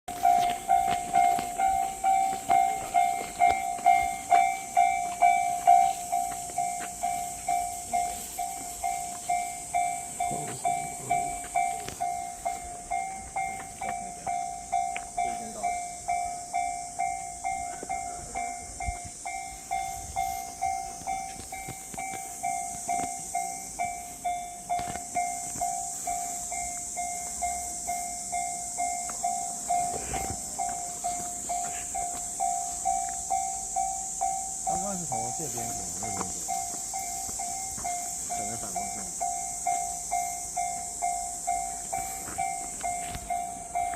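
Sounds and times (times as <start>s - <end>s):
railway crossing bell dinging: 0.1s - 43.9s.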